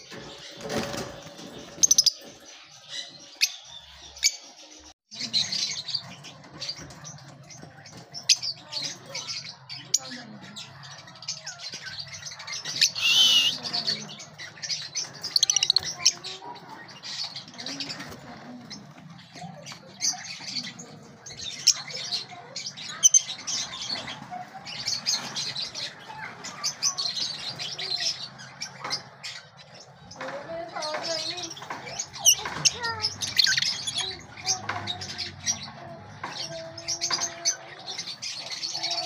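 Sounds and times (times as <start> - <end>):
lovebirds chirping and chattering: 0.0 - 39.0.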